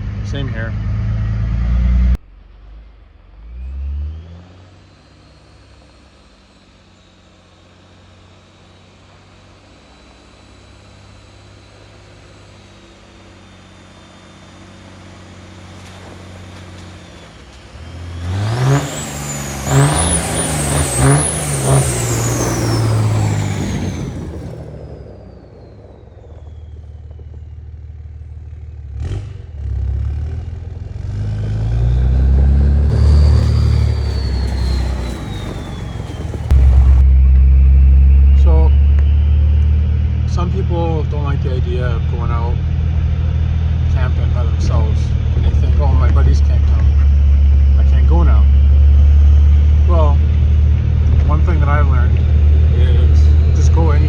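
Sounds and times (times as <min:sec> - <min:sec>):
diesel engine accelerating: 0:00.0 - 0:54.0
turbo whine: 0:00.0 - 0:54.0.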